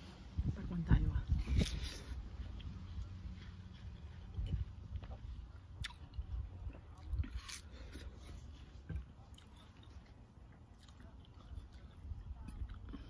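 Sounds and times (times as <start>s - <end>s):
person chewing: 1.4s - 13.0s.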